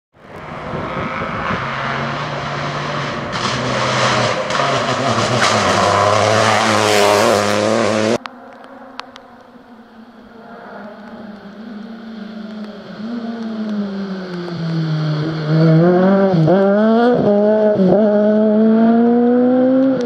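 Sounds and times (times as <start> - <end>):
rally car engine revving: 0.2 - 8.3, 10.0 - 20.0
faint approaching car engine: 0.2 - 19.8.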